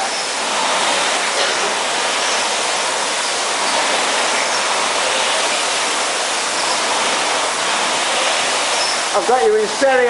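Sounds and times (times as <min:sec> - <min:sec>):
rowing machine flywheels whirring: 0:00.0 - 0:10.0.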